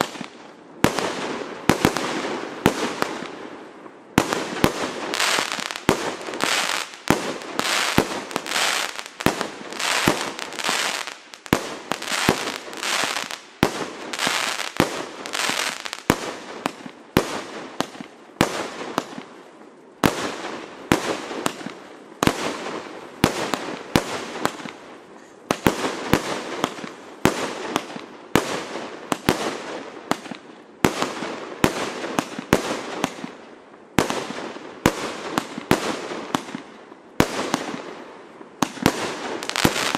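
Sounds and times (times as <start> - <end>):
firework shots with crackling: 0.0 - 39.9.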